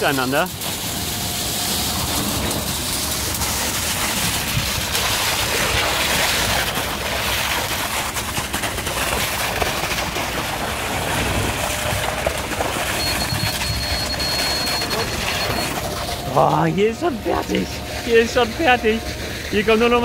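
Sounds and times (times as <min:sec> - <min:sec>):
concrete pump rushing and rumbling: 0:00.0 - 0:20.0.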